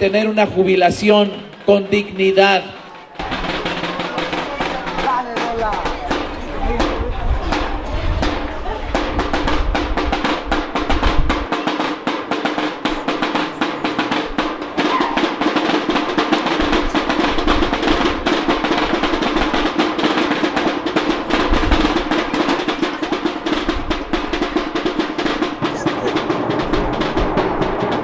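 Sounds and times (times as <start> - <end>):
fast drum roll: 0.0 - 28.0.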